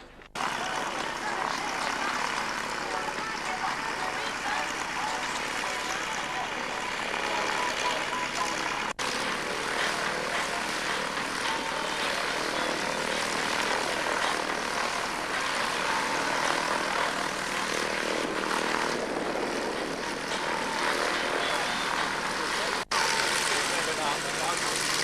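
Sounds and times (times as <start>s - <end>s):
propeller aircraft engine drone: 0.0s - 25.0s.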